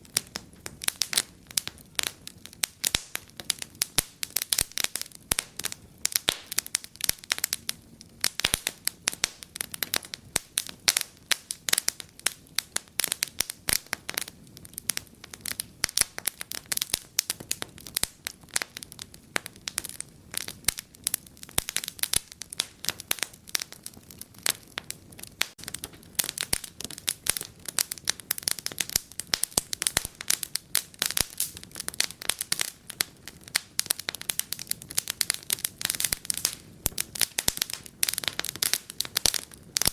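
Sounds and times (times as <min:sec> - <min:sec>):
soft hiss of burning: 0:00.0 - 0:39.9
wood fire crackling and popping: 0:00.0 - 0:39.9.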